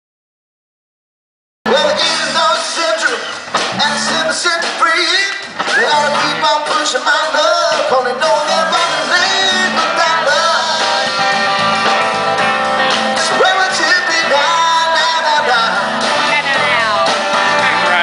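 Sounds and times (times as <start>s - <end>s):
bass guitar: 1.7s - 18.0s
drum kit: 1.7s - 18.0s
sliding lead melody: 1.7s - 18.0s.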